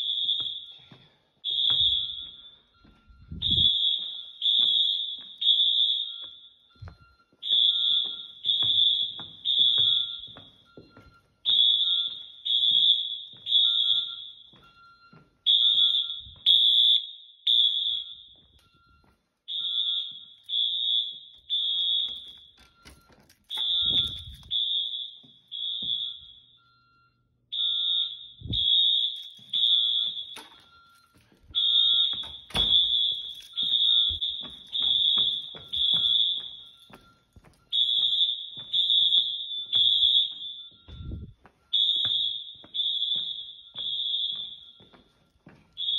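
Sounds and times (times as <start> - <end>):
footsteps: 0.0 - 16.6, 18.2 - 26.3, 28.5 - 45.9
fire alarm horns: 0.0 - 45.9.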